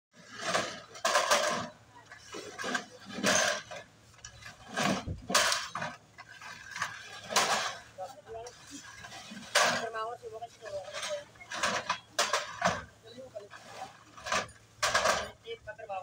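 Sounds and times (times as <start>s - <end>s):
glass bottles rattling in crates: 0.2s - 15.6s.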